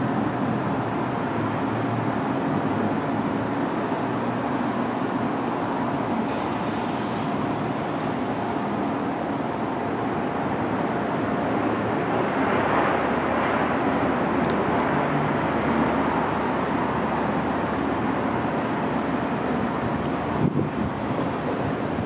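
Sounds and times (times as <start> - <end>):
faint turbine whine: 0.0 - 22.0
helicopter rotor and turbines droning: 2.2 - 22.0.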